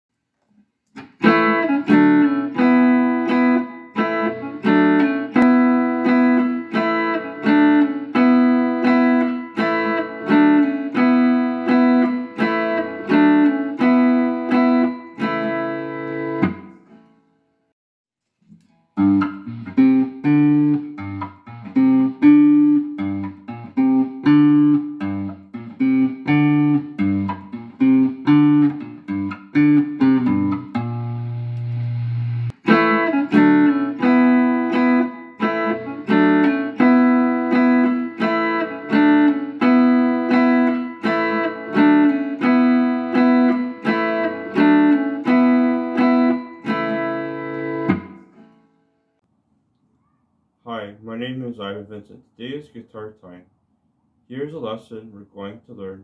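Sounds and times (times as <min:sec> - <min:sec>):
guitar strumming chords: 0:01.0 - 0:17.2, 0:18.6 - 0:48.8.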